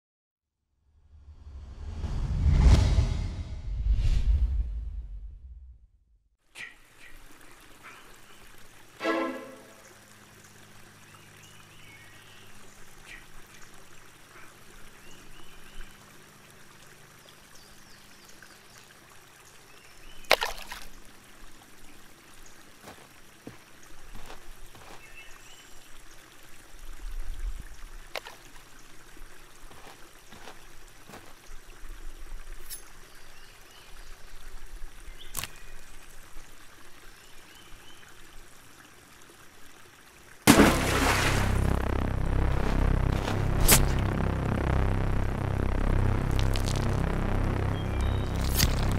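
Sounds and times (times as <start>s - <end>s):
creek water trickling over stones: 6.4s - 44.7s, 45.4s - 48.9s.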